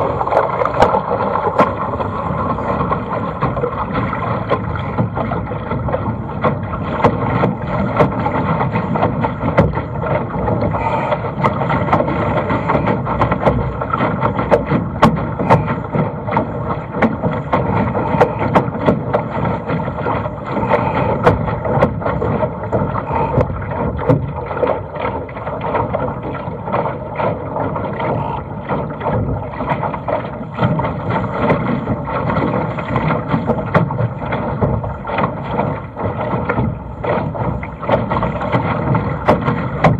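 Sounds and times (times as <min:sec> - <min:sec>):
spray ticks and slaps on boat: 0:00.0 - 0:39.9
water rushing along boat hull: 0:00.0 - 0:39.9.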